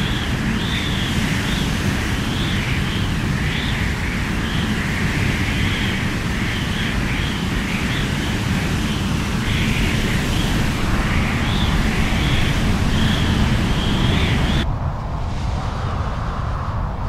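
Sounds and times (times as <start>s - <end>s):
strong wind whistling: 0.0s - 17.0s.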